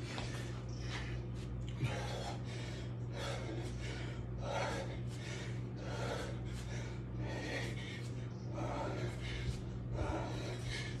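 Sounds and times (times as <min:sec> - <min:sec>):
man breathing hard: 0:00.0 - 0:11.0
steady low hum: 0:00.0 - 0:11.0.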